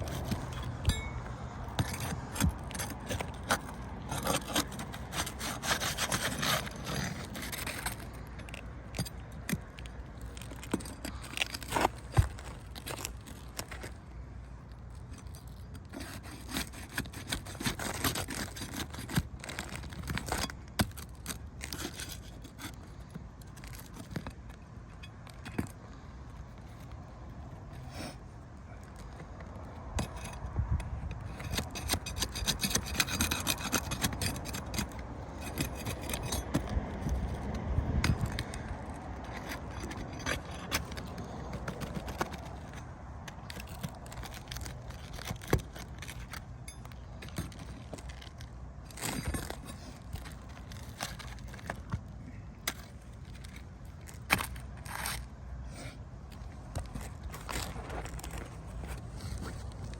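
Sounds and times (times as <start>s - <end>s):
shingles scraping and rubbing: 0.0s - 59.9s.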